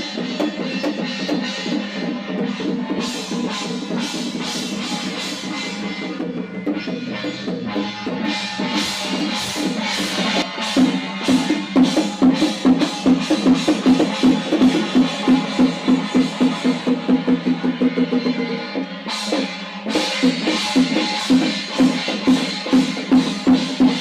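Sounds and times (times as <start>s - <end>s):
rapid drumbeats: 0.0s - 24.0s.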